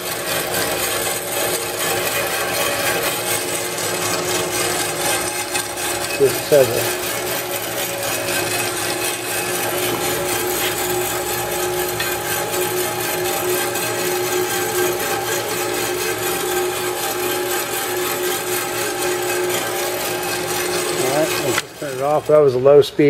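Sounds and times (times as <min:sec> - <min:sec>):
band saw whining: 0:00.0 - 0:23.0.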